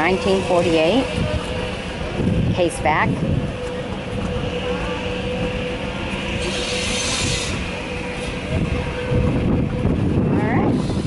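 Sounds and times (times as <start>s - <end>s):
low rumble: 0.0s - 11.0s
mechanical whine: 0.0s - 11.0s.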